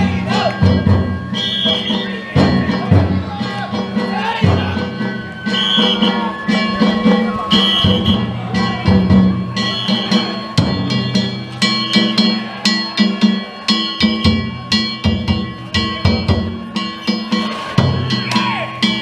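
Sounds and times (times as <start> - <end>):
booming drums: 0.0 - 12.6, 14.0 - 19.0
hand gongs clanging: 0.0 - 19.0.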